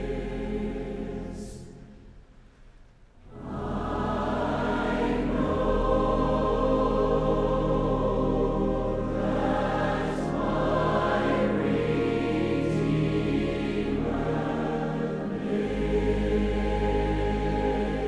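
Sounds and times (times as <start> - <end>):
choir singing slow chords: 0.0 - 2.6, 3.2 - 18.0.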